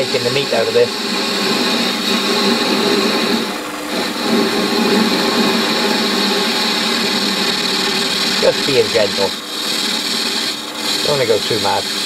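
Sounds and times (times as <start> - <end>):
lathe cutting metal: 0.0 - 12.0
motor and gear hum: 0.0 - 12.0.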